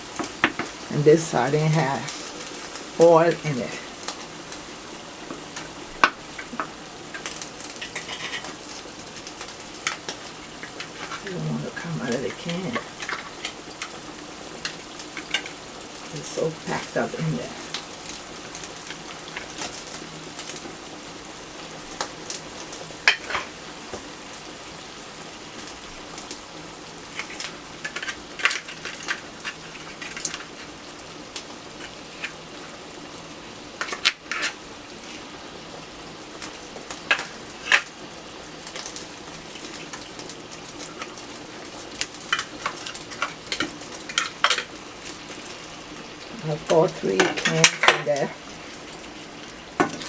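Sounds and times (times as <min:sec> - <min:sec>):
gravy sizzling in a frying pan: 0:00.0 - 0:50.0.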